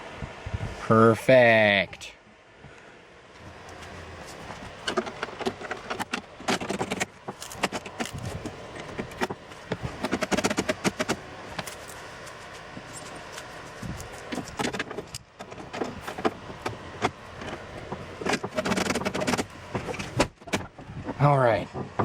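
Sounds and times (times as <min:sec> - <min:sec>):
clicks and rattles of plastic parts: 0:03.7 - 0:22.0.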